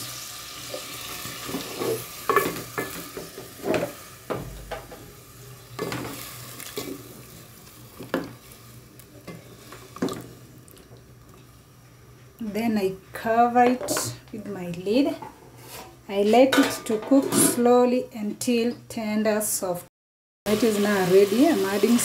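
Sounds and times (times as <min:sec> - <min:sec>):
soft sizzle: 0:00.0 - 0:16.7, 0:20.5 - 0:22.0.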